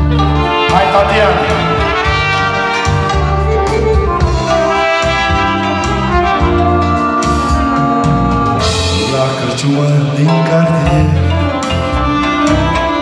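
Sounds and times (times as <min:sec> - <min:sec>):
drum kit: 0:00.0 - 0:13.0
trumpet melody: 0:00.0 - 0:13.0.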